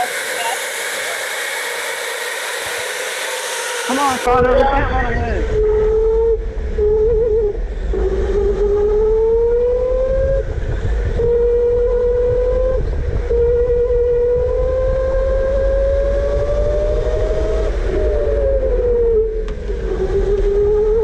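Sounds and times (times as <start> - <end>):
electric go-kart motor whining: 0.0 - 21.0
steady low rumble: 0.0 - 21.0.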